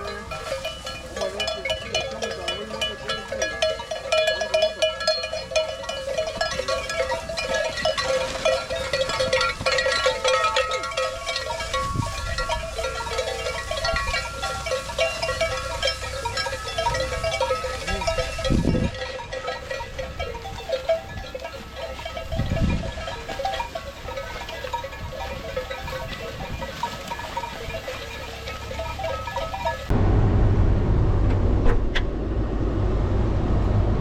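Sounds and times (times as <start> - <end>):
bells ringing: 0.0 - 30.0.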